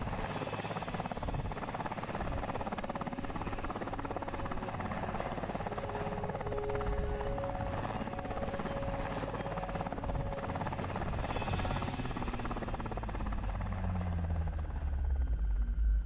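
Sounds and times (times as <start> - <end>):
helicopter rotor beating: 0.0 - 16.0
low engine hum: 1.1 - 16.0.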